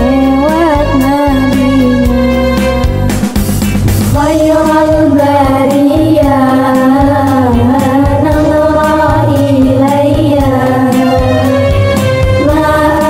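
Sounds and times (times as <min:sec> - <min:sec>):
instrumental backing with bass: 0:00.0 - 0:13.0.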